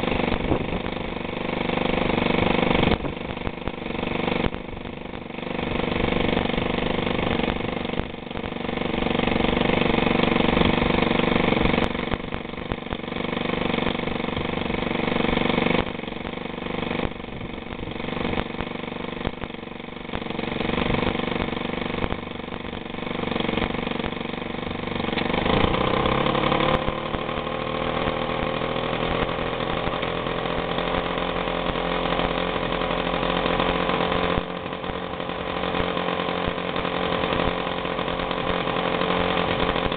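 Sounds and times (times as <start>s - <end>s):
moped engine idling and revving: 0.0s - 39.9s.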